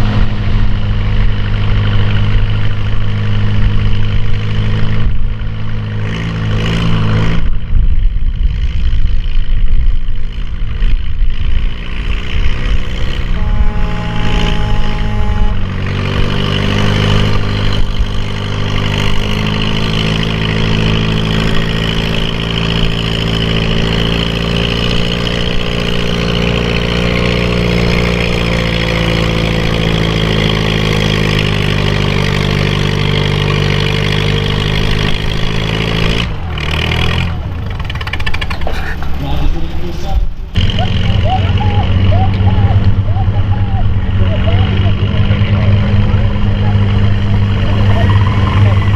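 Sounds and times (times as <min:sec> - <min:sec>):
tractor engine at high throttle: 0:00.0 - 0:48.9.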